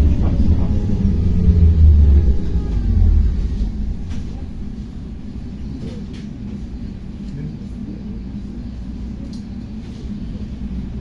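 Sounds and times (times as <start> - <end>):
vehicle ride rumble: 0.0 - 11.0.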